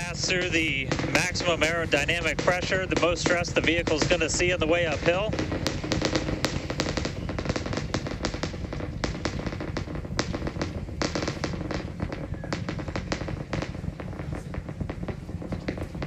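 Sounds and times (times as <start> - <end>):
low rocket rumble: 0.0 - 16.0
rocket exhaust crackle: 0.0 - 16.0.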